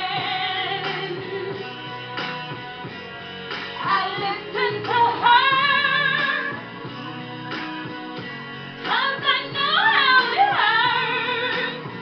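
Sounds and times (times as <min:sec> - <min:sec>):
slow pop ballad music: 0:00.0 - 0:12.0.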